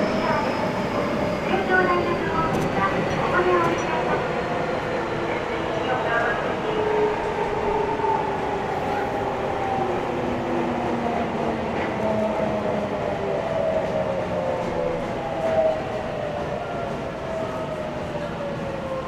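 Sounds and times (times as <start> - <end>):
subway train running: 0.0 - 19.0.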